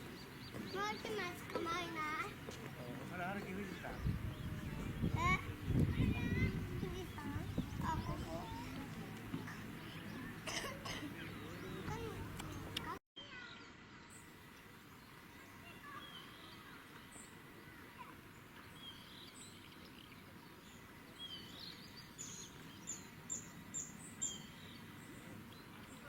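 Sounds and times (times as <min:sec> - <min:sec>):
small birds calling: 0:00.0 - 0:26.0.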